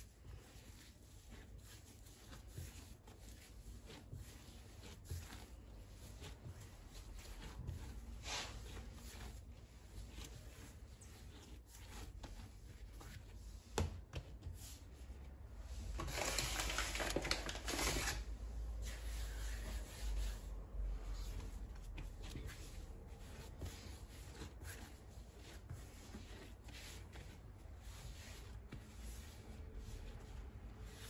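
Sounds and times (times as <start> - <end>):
hands rubbing food: 0.0 - 17.6, 18.7 - 31.0.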